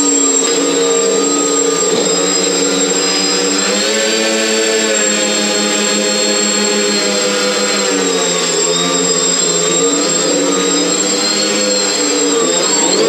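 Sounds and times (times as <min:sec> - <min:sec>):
tiny quadcopters whining: 0:00.0 - 0:13.0.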